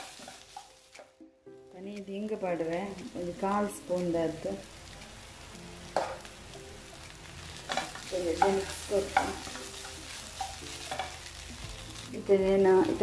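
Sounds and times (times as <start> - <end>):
faint frying sizzle: 0.0 - 13.0.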